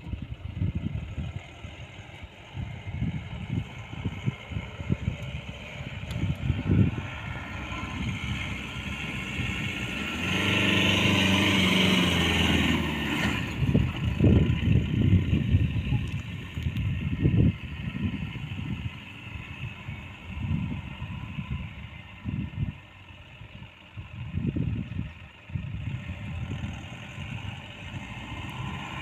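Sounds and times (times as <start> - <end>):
wind buffeting microphone: 0.0 - 29.0
diesel engine revving high: 0.2 - 29.0.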